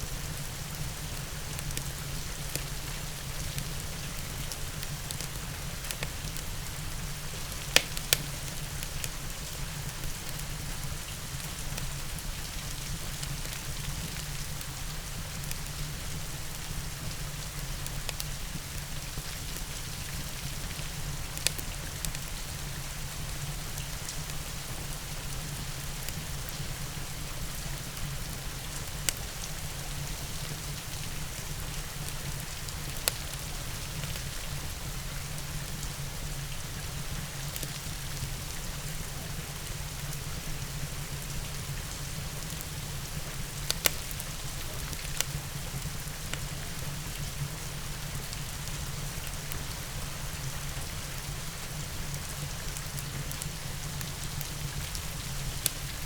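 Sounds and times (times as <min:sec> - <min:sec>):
steady rain: 0:00.0 - 0:56.0
wood fire crackling and popping: 0:00.4 - 0:24.8, 0:25.4 - 0:36.0, 0:37.4 - 0:49.8, 0:51.6 - 0:56.0.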